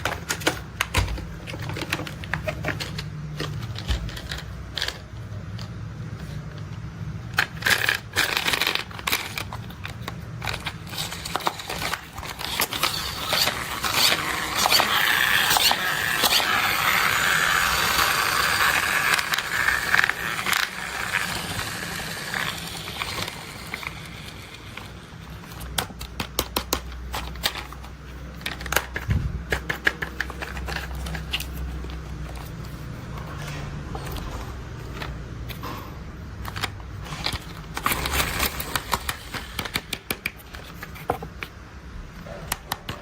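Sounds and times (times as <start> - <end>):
toy vehicles scraping and crackling: 0.0 - 41.6.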